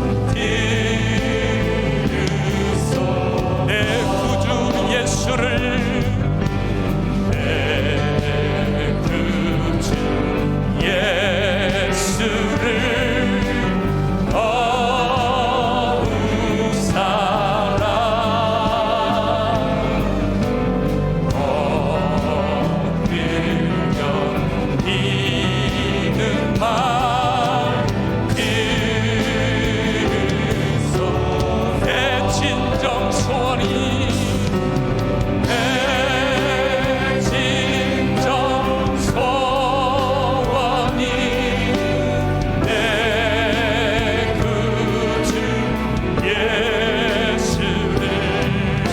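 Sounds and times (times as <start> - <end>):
band accompaniment: 0.0 - 48.9
voices singing with vibrato: 0.0 - 48.9.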